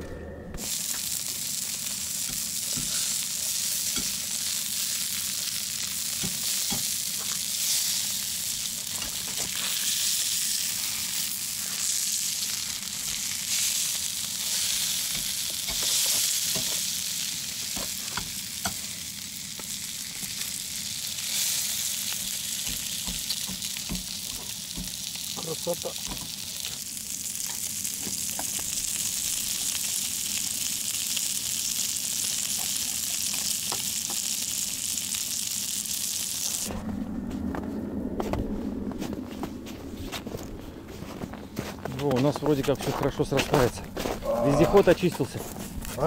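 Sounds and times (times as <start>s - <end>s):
sausages sizzling on griddle: 0.6s - 36.7s, 43.5s - 46.0s.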